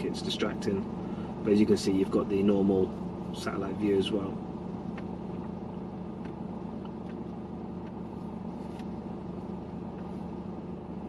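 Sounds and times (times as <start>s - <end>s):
car engine hum from cabin: 0.0s - 11.0s.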